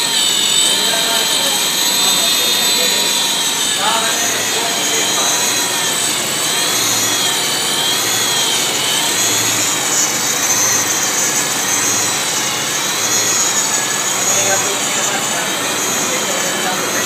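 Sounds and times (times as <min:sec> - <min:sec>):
supercharger whine: 0:00.0 - 0:17.0.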